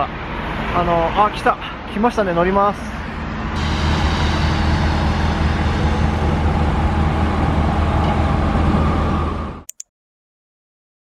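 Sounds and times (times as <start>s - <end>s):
city street traffic hum: 0.0s - 9.7s
tram pulling in: 0.0s - 9.7s.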